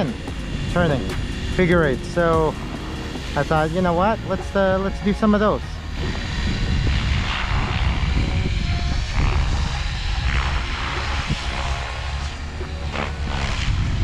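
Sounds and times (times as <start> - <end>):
rc helicopter rotor whine: 0.0 - 14.0
wind rumble on microphone: 0.0 - 14.0.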